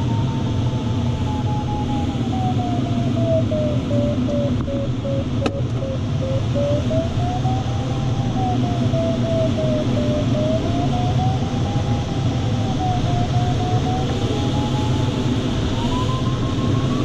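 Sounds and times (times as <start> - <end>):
wavering electronic tone: 0.0 - 17.0.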